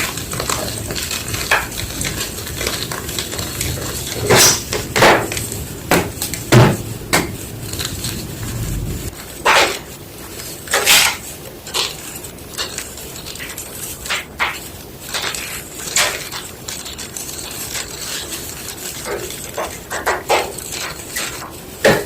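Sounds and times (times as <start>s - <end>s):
chalk crunching: 0.0s - 9.1s, 10.9s - 21.8s.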